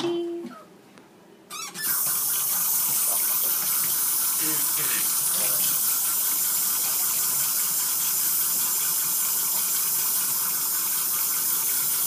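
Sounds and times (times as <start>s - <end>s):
tap water running into metal sink: 1.9s - 12.0s.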